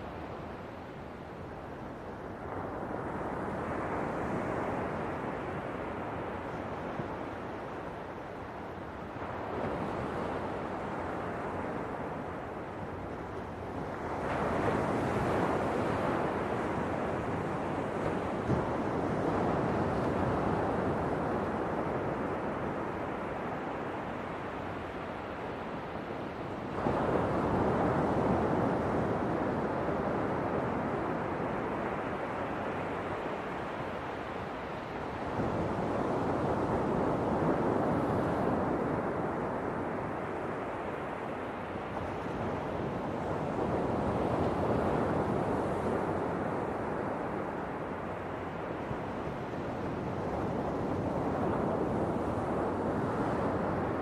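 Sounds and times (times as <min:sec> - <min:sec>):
ocean waves breaking on shore: 0:00.0 - 0:54.0
wind rumble on microphone: 0:00.0 - 0:54.0.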